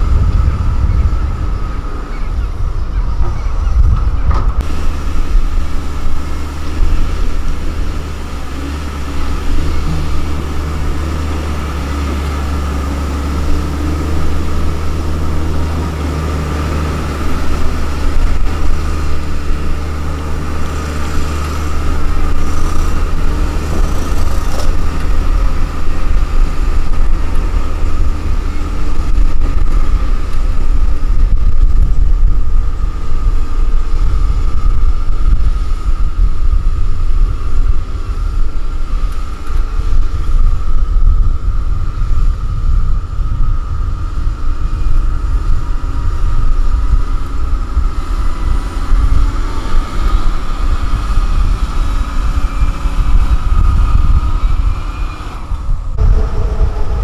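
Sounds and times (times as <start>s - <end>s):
diesel engine drone: 0.0s - 57.0s
high whine: 0.0s - 57.0s.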